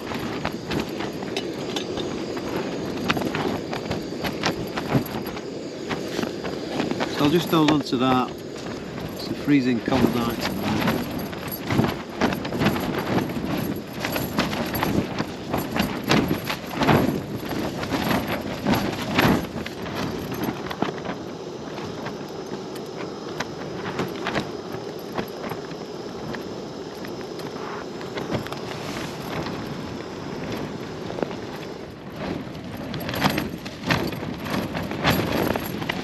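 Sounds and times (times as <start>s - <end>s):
gusting wind: 0.0s - 36.0s
tent fabric flapping: 0.0s - 36.0s.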